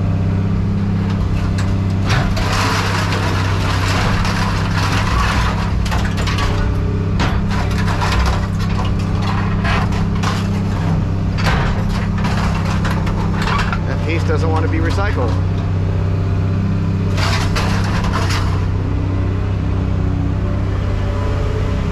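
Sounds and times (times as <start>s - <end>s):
scrap metal clattering and cracking: 0.2s - 19.2s.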